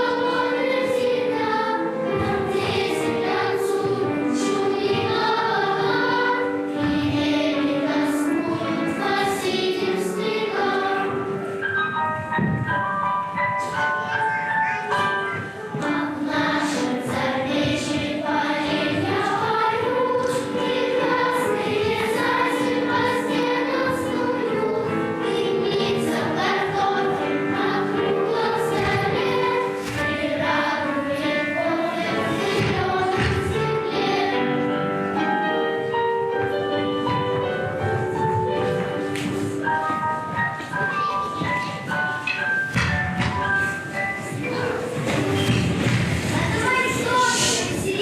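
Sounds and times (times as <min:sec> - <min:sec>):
children's choir singing: 0:00.0 - 0:48.0
instrumental accompaniment: 0:00.0 - 0:48.0.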